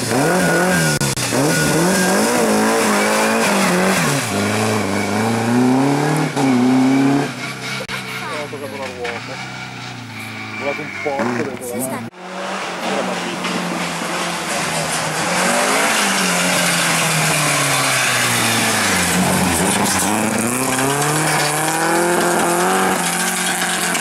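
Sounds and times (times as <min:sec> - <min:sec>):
rally car engine at speed: 0:00.0 - 0:24.0.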